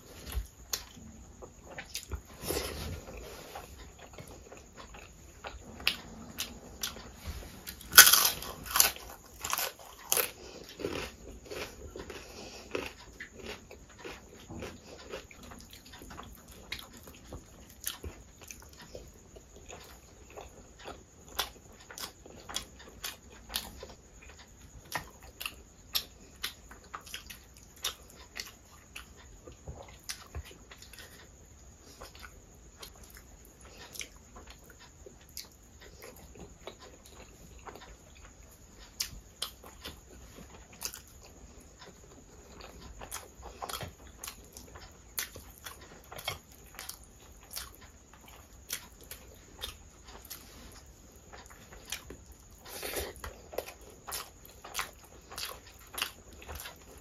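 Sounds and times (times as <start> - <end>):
chewing and mouth clicks: 0.2 - 57.0.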